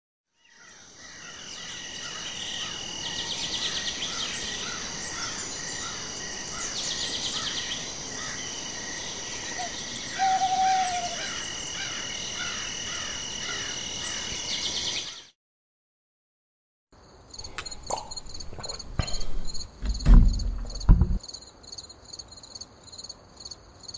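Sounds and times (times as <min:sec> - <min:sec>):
crickets and insects trilling: 0:00.6 - 0:15.2, 0:17.0 - 0:23.9.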